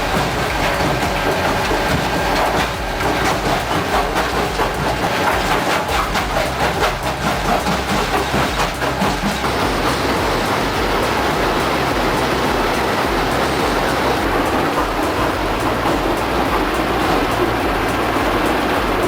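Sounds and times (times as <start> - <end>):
fast rhythmic clatter: 0.0 - 19.0
heavy machinery running: 0.0 - 19.0.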